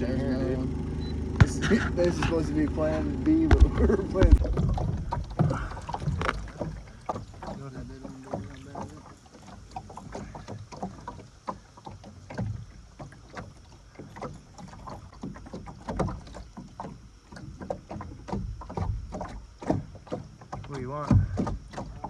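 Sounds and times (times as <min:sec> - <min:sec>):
knocks and taps on boat: 0:01.4 - 0:22.0.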